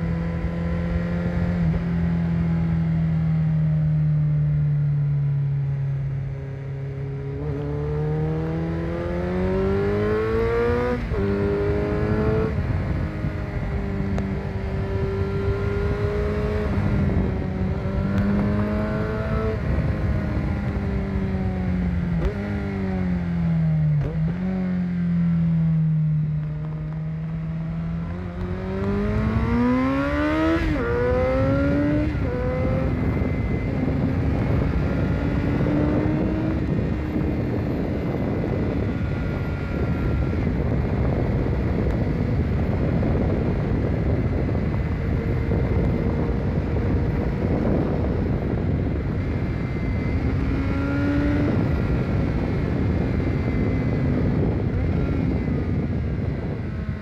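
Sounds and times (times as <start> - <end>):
low wind rumble: 0.0 - 57.0
motorcycle engine accelerating: 0.0 - 57.0.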